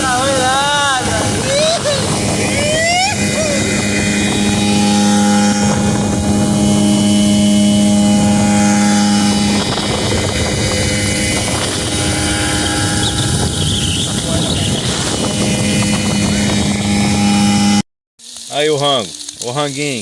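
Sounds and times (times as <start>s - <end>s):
motorboat engine running: 0.0s - 17.8s.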